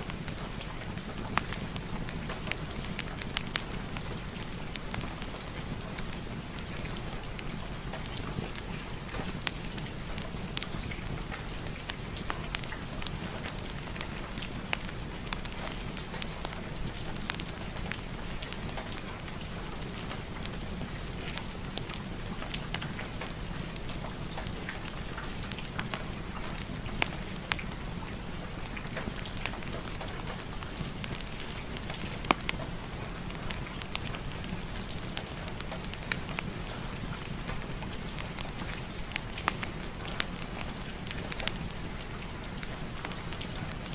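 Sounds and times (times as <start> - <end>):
steady rain: 0.0 - 43.9
wood fire crackling and popping: 0.0 - 43.9.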